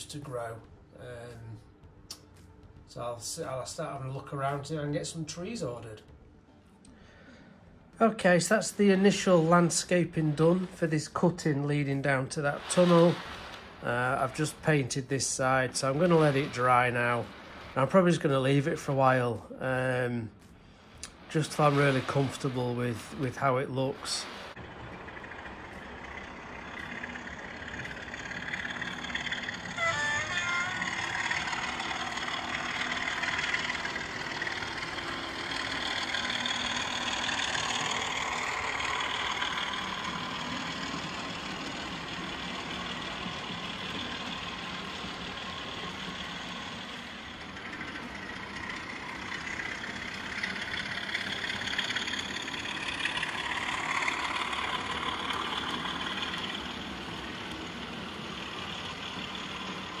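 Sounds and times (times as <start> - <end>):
model diesel engine: 0.0 - 60.0
wheels running over track: 8.0 - 60.0.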